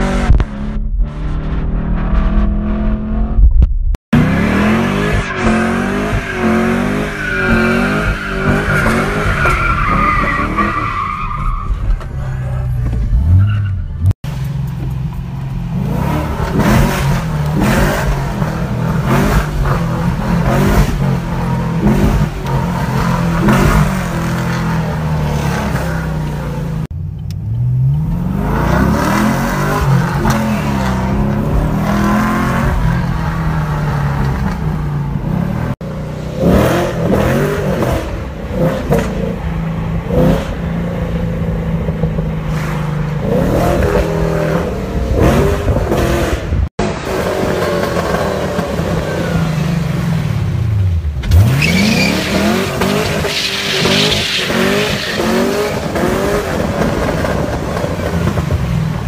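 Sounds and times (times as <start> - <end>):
car engine revving and accelerating: 4.2 - 11.4, 15.6 - 59.0.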